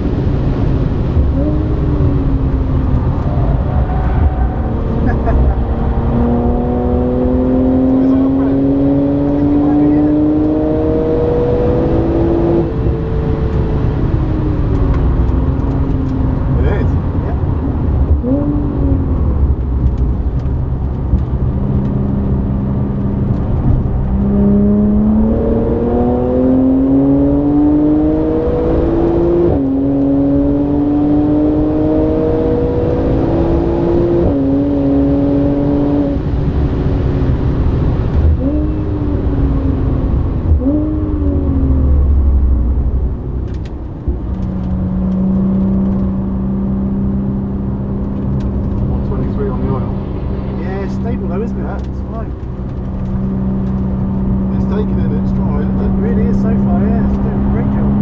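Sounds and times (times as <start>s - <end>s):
car engine under full throttle: 0.0s - 58.0s.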